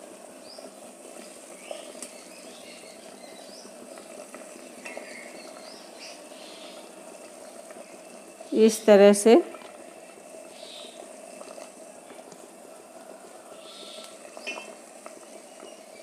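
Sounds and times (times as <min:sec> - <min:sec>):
gas burner hissing: 0:00.0 - 0:16.0
water boiling in a pot: 0:00.0 - 0:16.0.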